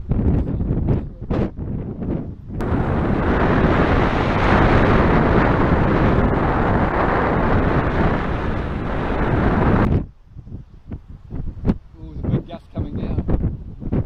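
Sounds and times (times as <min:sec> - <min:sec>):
wind rushing on microphone: 0:00.0 - 0:14.0.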